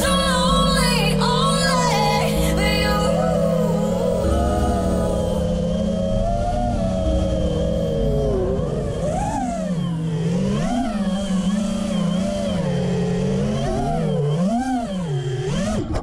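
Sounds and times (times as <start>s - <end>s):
drone motors and propellers whining: 0.0s - 16.0s.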